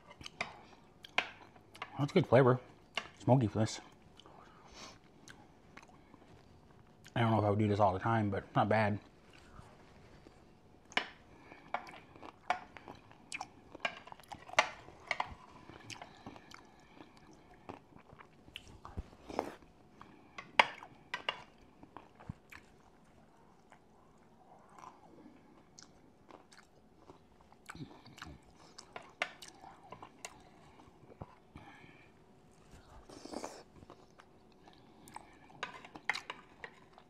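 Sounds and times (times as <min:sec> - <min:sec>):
chewing bacon: 0:00.0 - 0:07.2, 0:09.2 - 0:37.0.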